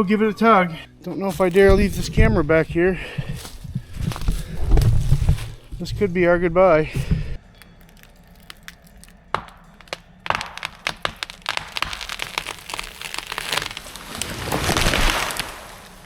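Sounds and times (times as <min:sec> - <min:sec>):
wood cracking and snapping: 0:00.0 - 0:16.0
tree crashing through branches: 0:01.1 - 0:16.0.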